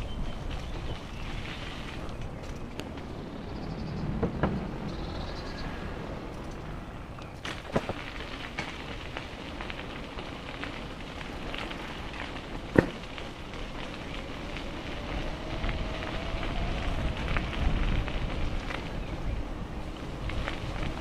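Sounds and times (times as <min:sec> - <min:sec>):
wind on microphone: 0:00.0 - 0:10.1, 0:13.7 - 0:21.0
crackling rattle: 0:00.0 - 0:21.0.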